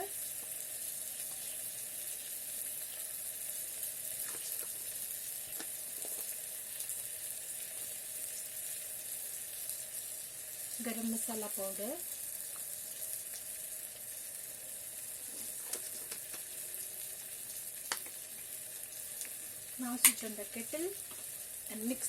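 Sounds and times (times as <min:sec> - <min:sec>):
vegetables sizzling: 0:00.0 - 0:22.0.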